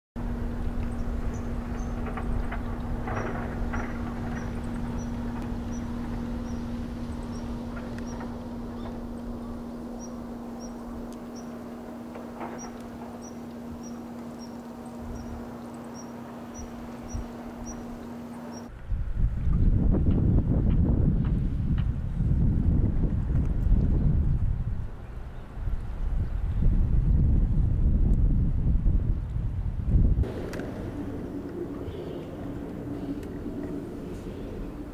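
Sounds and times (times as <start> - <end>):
low rumble: 0.2 - 34.9
steady low hum: 0.2 - 34.9.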